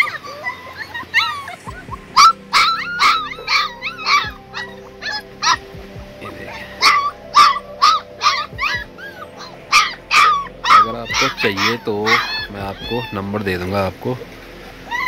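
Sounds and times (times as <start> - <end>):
puppies barking: 0.0 - 5.7, 6.3 - 13.7.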